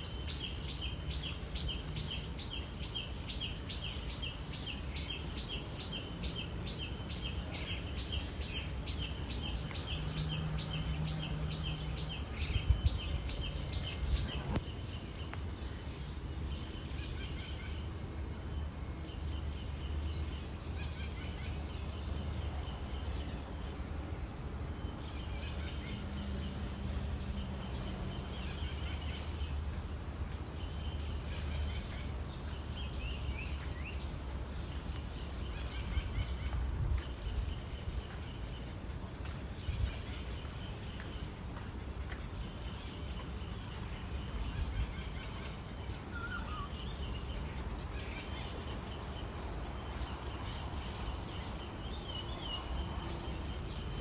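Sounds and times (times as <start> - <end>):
birds chirping faintly: 0.0 - 54.0
cicadas droning: 0.0 - 54.0.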